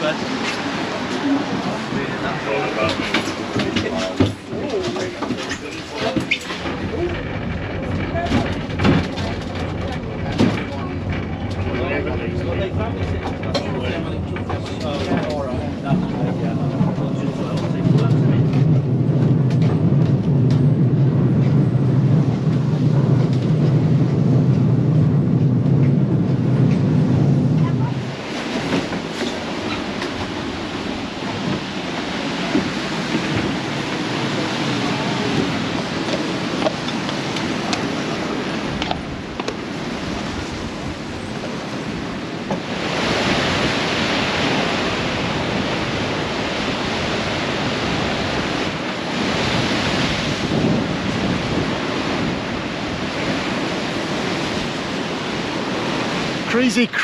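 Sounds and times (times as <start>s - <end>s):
wind buffeting microphone: 0.0s - 56.5s
rough sea rushing: 0.0s - 57.0s.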